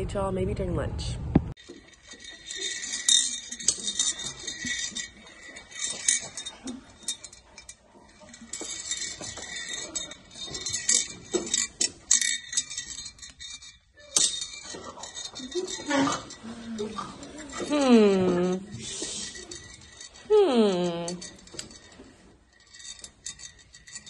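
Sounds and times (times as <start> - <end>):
marbles clinking in a jar: 1.6 - 24.0.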